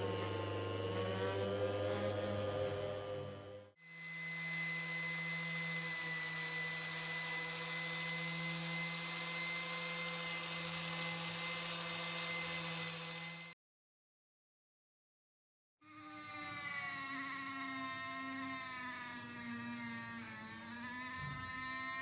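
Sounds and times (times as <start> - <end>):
electric power tool whirring: 0.0 - 13.6, 15.8 - 22.0.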